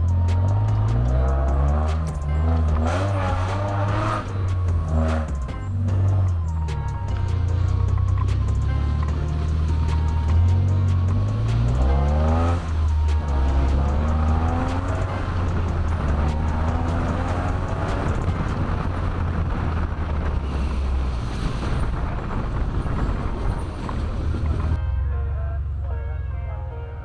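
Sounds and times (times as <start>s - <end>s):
engine accelerating: 0.0s - 24.8s.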